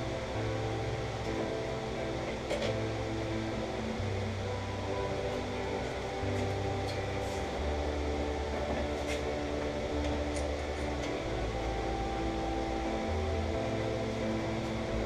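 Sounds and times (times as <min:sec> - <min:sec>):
background music with bass notes: 0:00.0 - 0:15.0.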